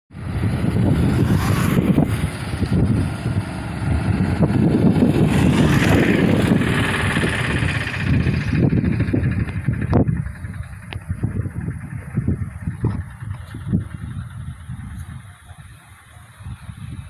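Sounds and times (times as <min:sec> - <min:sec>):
vehicle engine and road rumble: 0:00.1 - 0:17.0.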